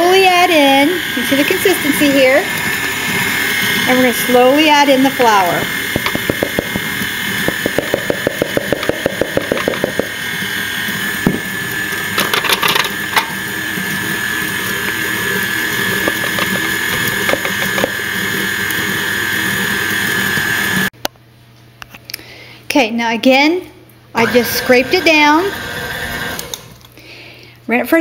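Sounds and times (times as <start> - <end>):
stand mixer motor whine: 0.0 - 20.9, 24.2 - 26.9.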